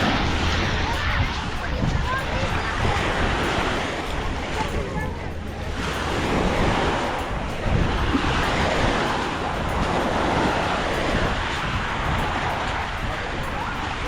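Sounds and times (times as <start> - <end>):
waves washing on sandy beach: 0.0 - 14.0
wind rumbling on microphone: 0.0 - 14.0.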